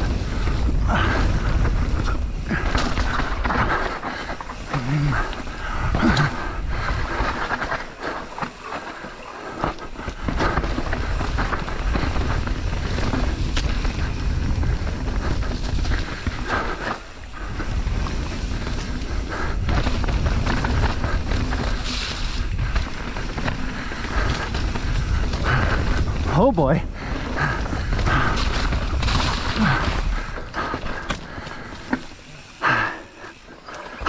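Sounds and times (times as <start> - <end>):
bike rattling and knocking: 0.0 - 34.0
tyres rolling over wet dirt: 0.0 - 34.0
wind rushing over microphone: 0.0 - 34.0.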